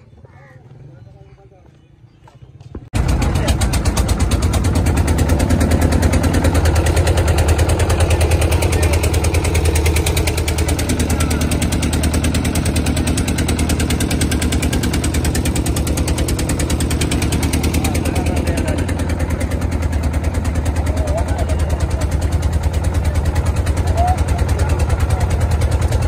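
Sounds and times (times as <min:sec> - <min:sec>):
diesel boat engine running: 0:02.9 - 0:26.0.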